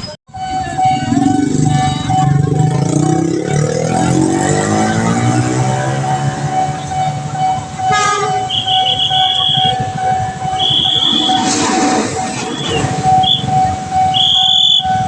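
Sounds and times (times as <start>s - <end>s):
crossing alarm steady tone: 0.0s - 15.0s
train passing: 0.0s - 15.0s.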